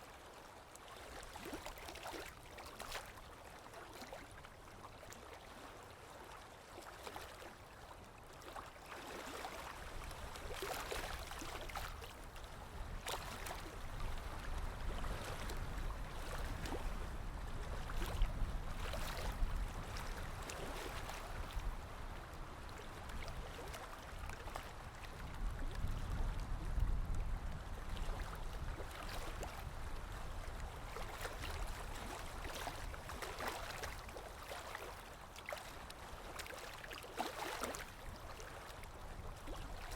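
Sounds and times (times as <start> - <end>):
low water rumble: 0.1 - 39.9.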